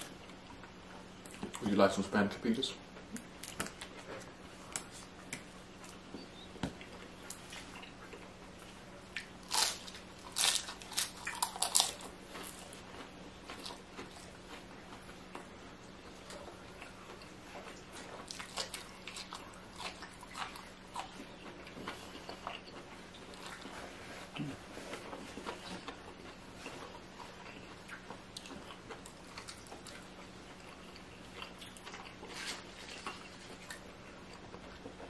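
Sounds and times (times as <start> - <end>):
faint steady hum: 0.0 - 35.0
crunchy food chewing: 3.0 - 35.0.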